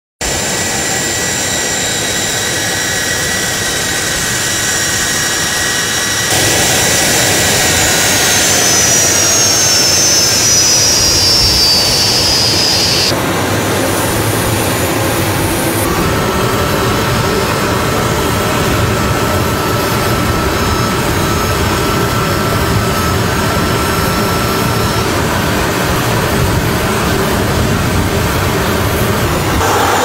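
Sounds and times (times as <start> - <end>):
jet engine whine: 0.2 - 30.0
jet engines rushing: 0.2 - 30.0.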